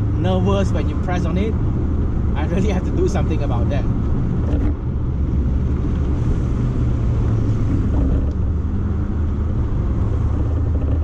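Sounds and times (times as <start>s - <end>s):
car engine cruising: 0.0s - 11.0s
road noise: 0.0s - 11.0s.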